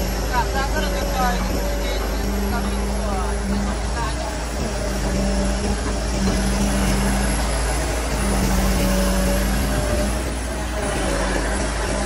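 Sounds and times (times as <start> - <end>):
excavator diesel engine drone: 0.0 - 12.0
hydraulic whine: 0.0 - 12.0.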